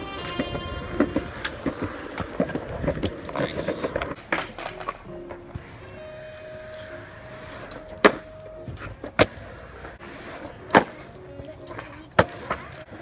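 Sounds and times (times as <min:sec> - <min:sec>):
skateboard popping and slapping down: 0:00.0 - 0:05.7, 0:07.6 - 0:13.0
skateboard wheels rolling on concrete: 0:00.0 - 0:13.0.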